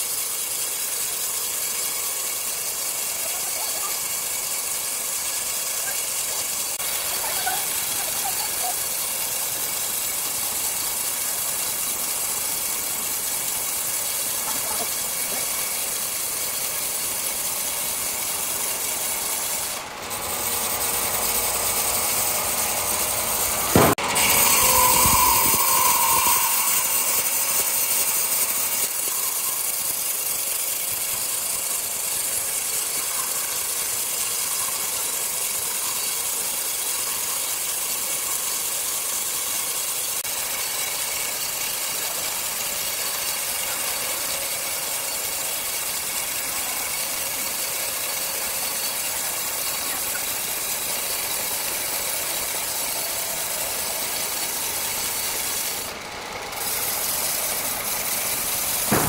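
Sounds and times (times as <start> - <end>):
circular saw running: 0.0 - 59.0.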